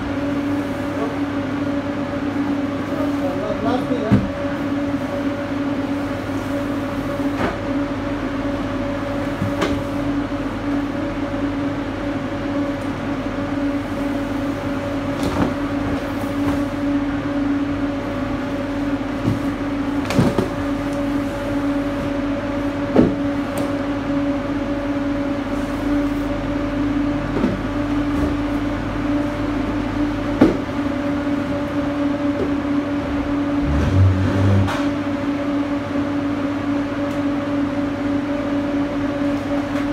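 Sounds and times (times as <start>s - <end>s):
cooling unit humming: 0.0s - 39.9s.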